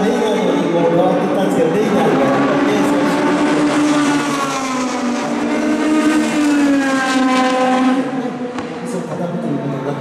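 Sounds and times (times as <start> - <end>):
racing car engine at high revs: 0.0 - 10.0.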